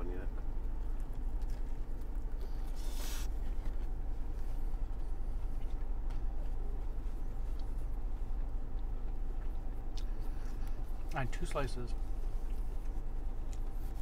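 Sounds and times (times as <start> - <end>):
low car cabin hum: 0.0 - 14.0
people chewing sandwiches: 0.3 - 14.0.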